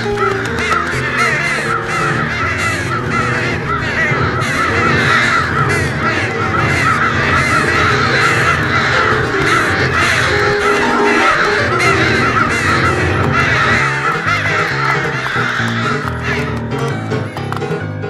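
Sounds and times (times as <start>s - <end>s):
flock of birds calling: 0.0s - 18.0s
low held music notes: 0.0s - 18.0s.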